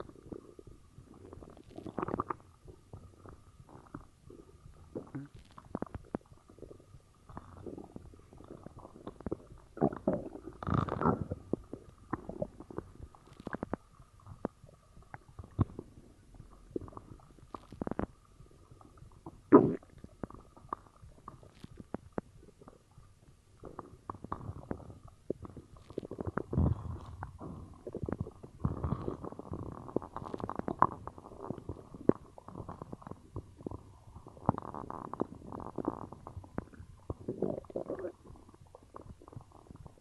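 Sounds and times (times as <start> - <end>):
stomach gurgling: 0.0 - 40.0.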